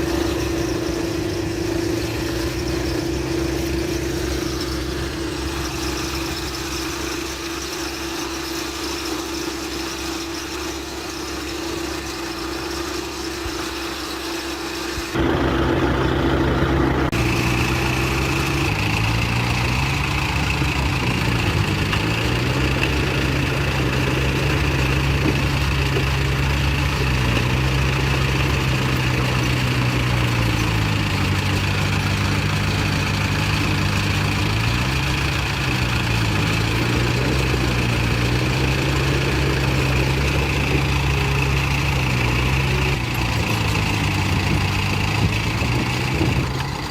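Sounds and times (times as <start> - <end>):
bulldozer diesel engine revving: 0.0 - 46.9.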